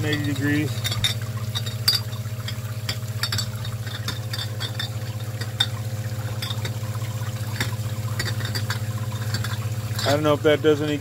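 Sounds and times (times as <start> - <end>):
glass bottles clicking: 0.0 - 6.8, 7.4 - 10.3
pump humming: 0.0 - 11.0
water spraying and splashing: 0.0 - 11.0.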